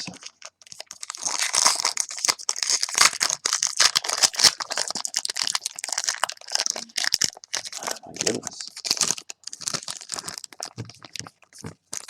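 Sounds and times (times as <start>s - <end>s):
foil wrappers crinkling and tearing: 0.0s - 12.0s.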